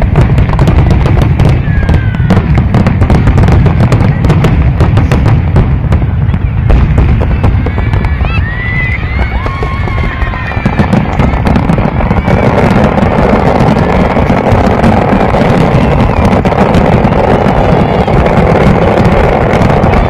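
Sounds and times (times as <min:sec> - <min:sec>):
fireworks crackling and popping: 0:00.0 - 0:20.0
fireworks whistling: 0:00.0 - 0:20.0.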